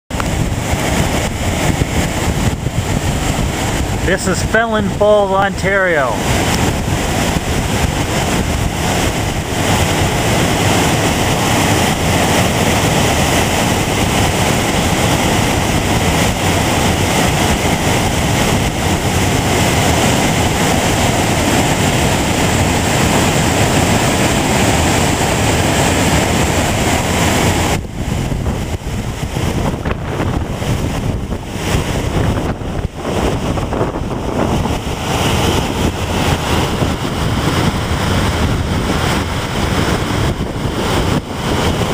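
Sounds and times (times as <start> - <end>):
waterfall rushing: 0.1 - 41.9
wind buffeting microphone: 0.1 - 41.9.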